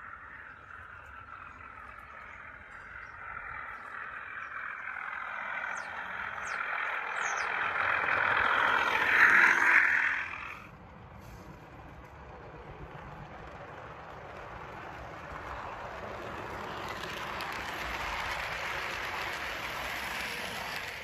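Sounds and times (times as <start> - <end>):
model locomotive motor and gears whirring: 0.0 - 21.0.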